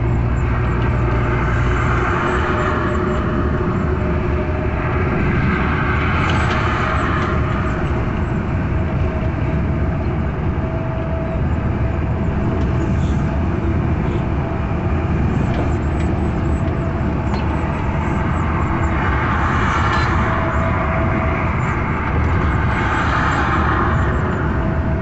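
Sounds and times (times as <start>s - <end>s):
truck engine drone: 0.0s - 25.0s
tyre and road rumble: 0.0s - 25.0s.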